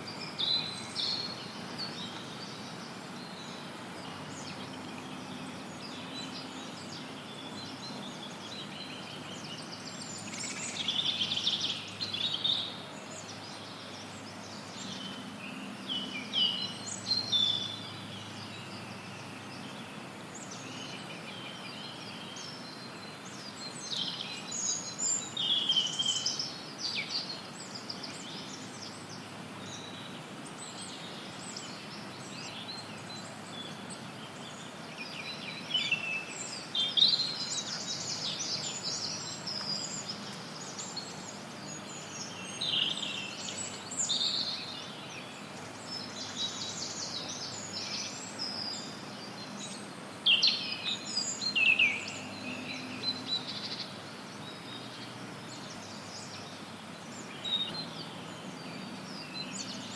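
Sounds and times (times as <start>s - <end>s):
birds chirping and trilling: 0.0s - 59.9s
white noise hiss: 0.0s - 59.9s.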